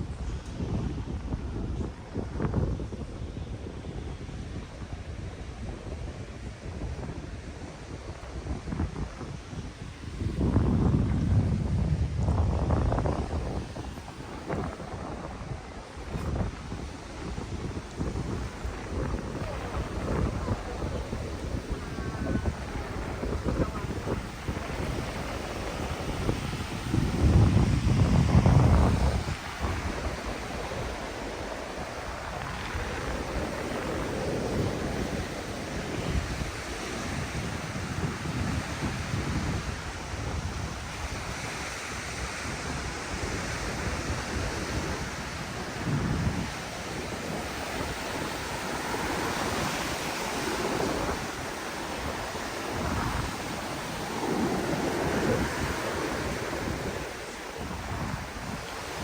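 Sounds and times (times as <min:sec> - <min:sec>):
ocean waves on sand: 0:00.0 - 0:59.0
wind buffeting microphone: 0:00.0 - 0:59.0.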